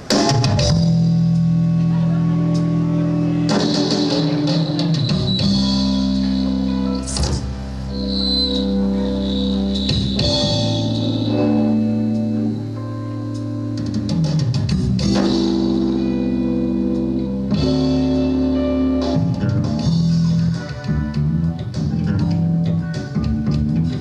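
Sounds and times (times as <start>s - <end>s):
electric guitar and bass band: 0.0s - 24.0s.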